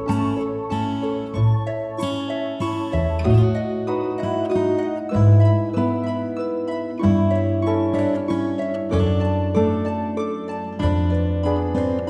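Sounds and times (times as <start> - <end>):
gentle harp-like plucked music: 0.0 - 12.0.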